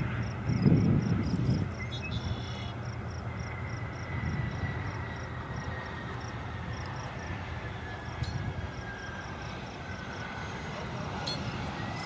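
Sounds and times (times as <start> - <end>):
faint high jet whine: 0.0 - 12.0
jet engines rumbling: 0.0 - 12.0.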